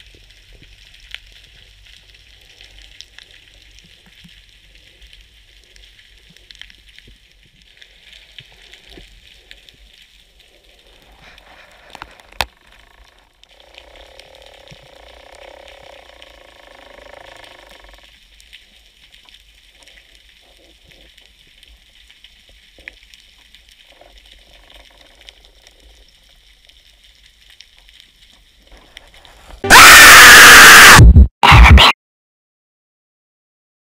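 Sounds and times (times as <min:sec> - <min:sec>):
underwater crackling hiss: 0:00.0 - 0:29.6.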